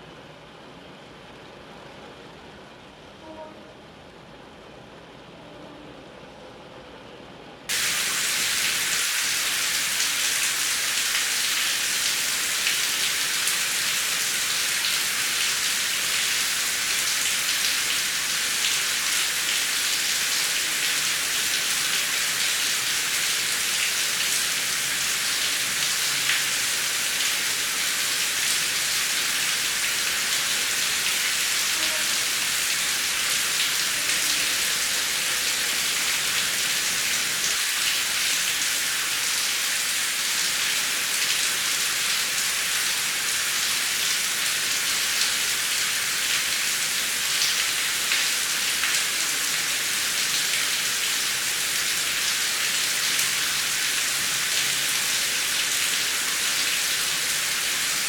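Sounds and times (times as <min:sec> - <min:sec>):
heavy rain hissing: 0:07.7 - 0:58.0.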